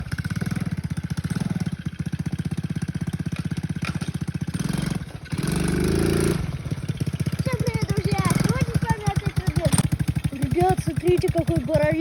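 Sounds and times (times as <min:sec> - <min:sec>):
engine running with rapid pulse: 0:00.0 - 0:12.0.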